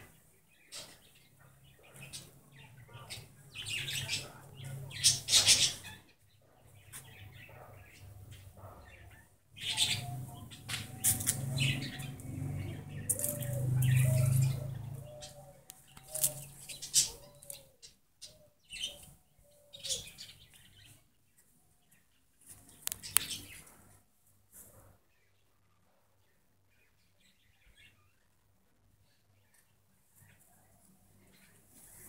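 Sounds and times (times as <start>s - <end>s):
birds chirping and calling: 0.0s - 26.0s, 26.7s - 32.0s.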